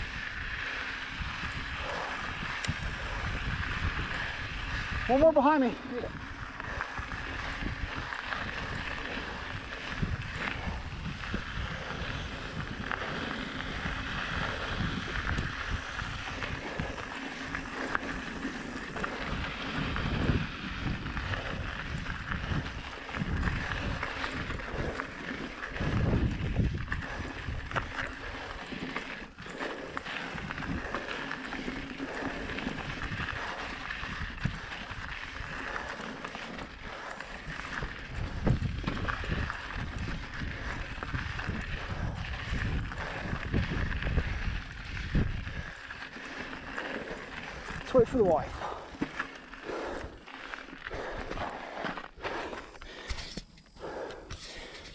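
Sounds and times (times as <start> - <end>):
bike rattling: 0.0 - 54.9
tyres crunching on gravel: 0.0 - 54.9
wind buffeting microphone: 0.0 - 54.9.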